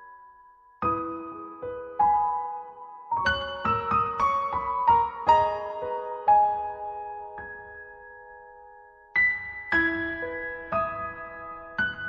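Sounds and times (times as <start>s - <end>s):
piano-like keyboard music: 0.0s - 12.0s.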